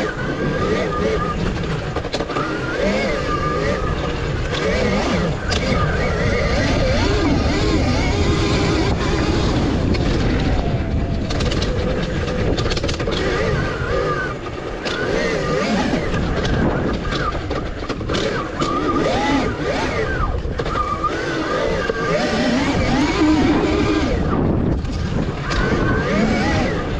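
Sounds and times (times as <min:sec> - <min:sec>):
electric motor whine: 0:00.0 - 0:26.9
wind rumble on microphone: 0:00.0 - 0:26.9.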